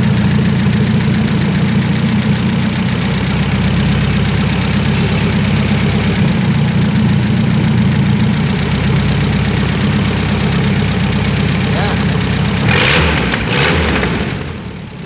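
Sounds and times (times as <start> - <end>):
gasoline engine idling: 0.0 - 15.0.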